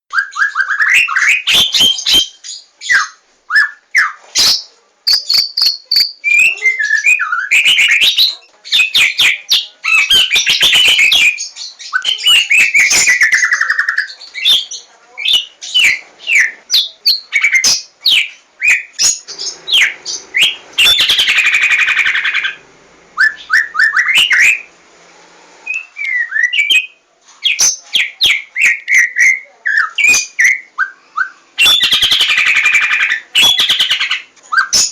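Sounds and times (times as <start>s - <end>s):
bird singing whistles and chirps: 0.1s - 22.6s, 23.2s - 24.7s, 25.6s - 34.9s.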